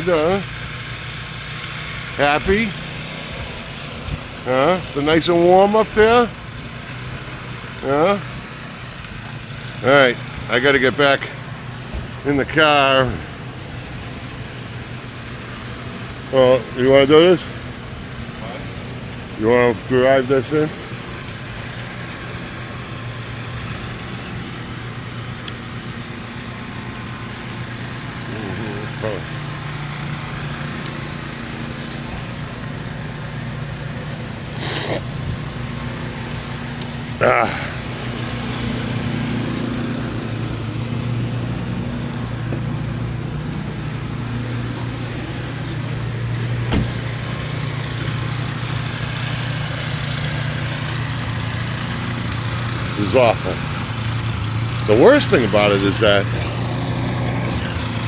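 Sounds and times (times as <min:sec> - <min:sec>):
vehicle engine idling: 0:00.0 - 0:58.0.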